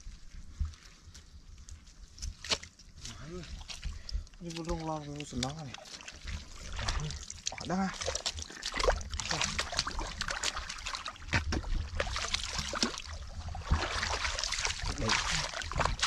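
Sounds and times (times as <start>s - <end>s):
muddy water splashing and sloshing: 0.0s - 16.0s.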